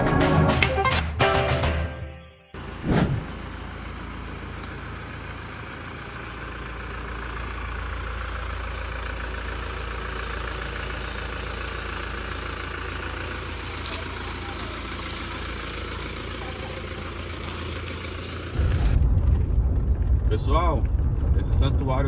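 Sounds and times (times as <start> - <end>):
pickup engine and road rumble: 1.3 - 22.0.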